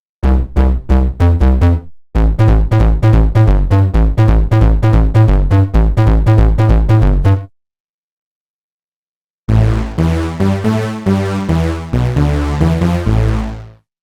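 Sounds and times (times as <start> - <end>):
electronic synth pattern with bass: 0.2 - 7.5, 9.5 - 13.8.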